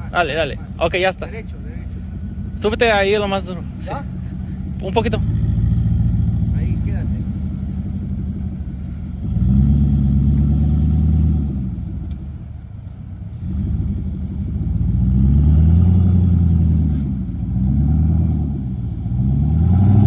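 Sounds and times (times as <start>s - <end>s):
engine revving: 0.0s - 12.5s, 13.3s - 20.0s.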